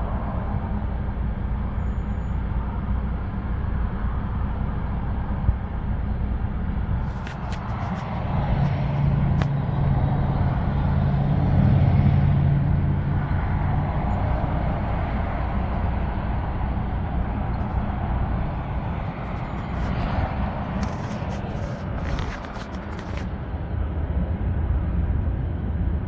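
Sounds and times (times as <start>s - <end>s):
vehicle engine hum and road noise: 0.0s - 26.0s.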